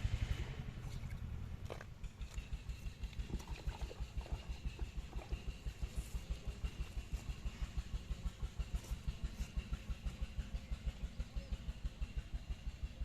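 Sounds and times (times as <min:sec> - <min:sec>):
engine chugging: 0:00.0 - 0:13.0.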